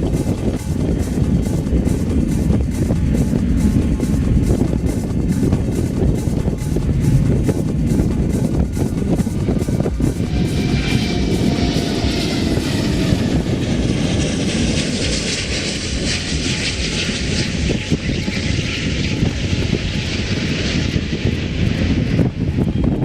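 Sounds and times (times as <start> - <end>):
faint jet whine: 0.0 - 23.0
jet engines rumbling: 0.0 - 23.0.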